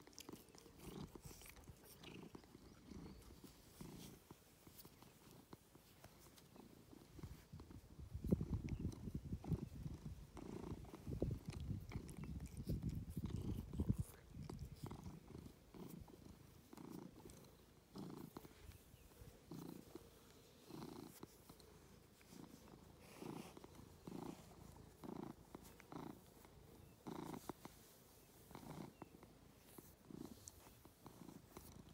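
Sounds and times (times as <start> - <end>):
cat purring: 0.0 - 31.9.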